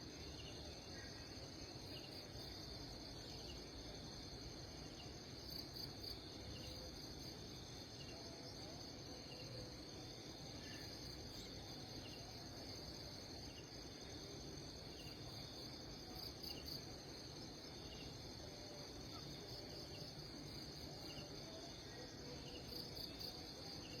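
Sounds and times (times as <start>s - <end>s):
insects chorus: 0.0s - 24.0s.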